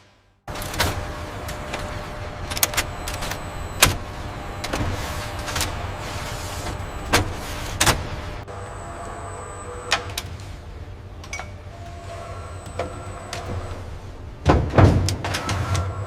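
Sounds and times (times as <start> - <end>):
workshop machinery whirring: 0.5 - 16.0.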